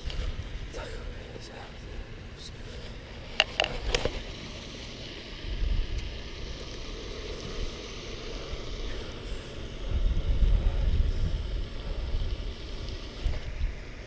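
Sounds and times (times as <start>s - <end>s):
wind buffeting microphone: 0.0s - 4.4s, 5.2s - 14.0s.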